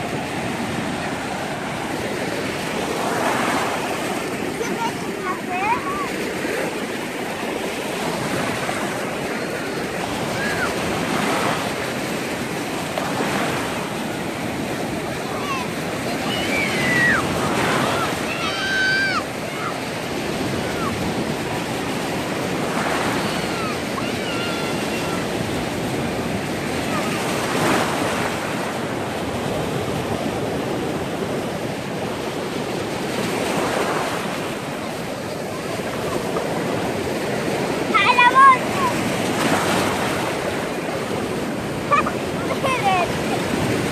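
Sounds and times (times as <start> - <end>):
sea surf breaking: 0.0 - 43.9.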